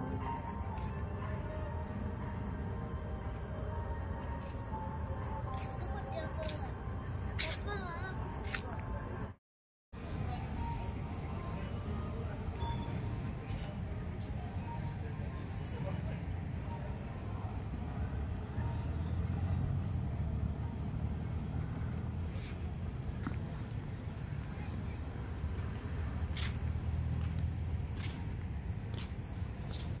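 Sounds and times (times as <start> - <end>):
crickets chirring: 0.0 - 9.4, 10.0 - 30.0.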